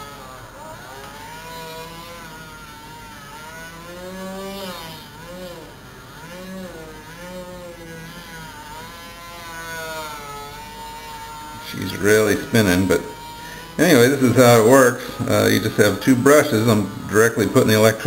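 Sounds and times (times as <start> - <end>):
toy motor whine wavering: 0.0 - 18.0.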